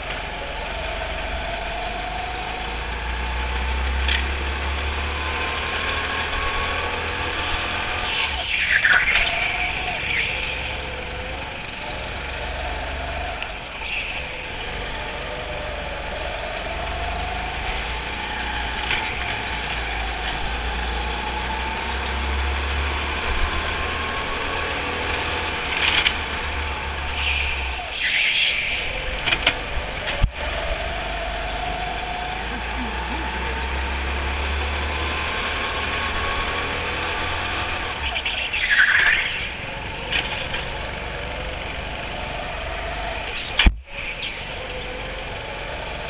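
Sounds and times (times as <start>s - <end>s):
go-kart engines running: 0.0s - 46.0s.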